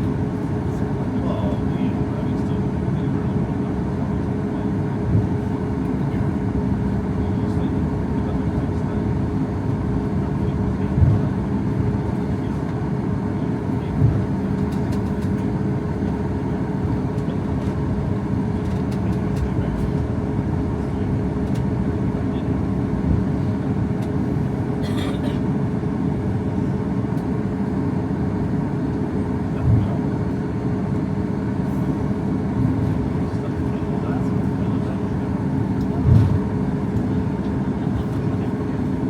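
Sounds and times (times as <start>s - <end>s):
airplane cabin engine drone: 0.0s - 39.0s.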